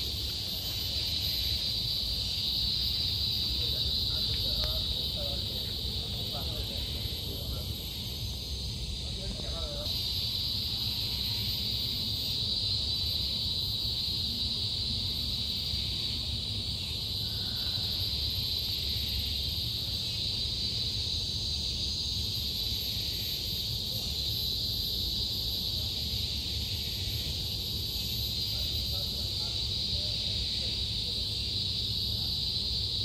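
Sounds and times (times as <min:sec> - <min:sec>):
insect chorus hissing: 0:00.0 - 0:33.0.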